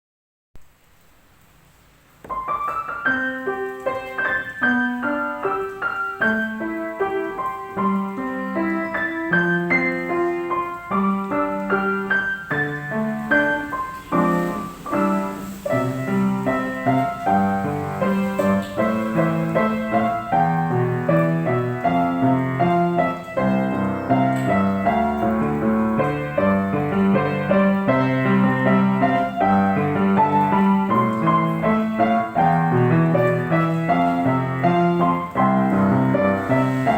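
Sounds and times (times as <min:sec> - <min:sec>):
piano melody with bass notes: 0:02.2 - 0:36.9.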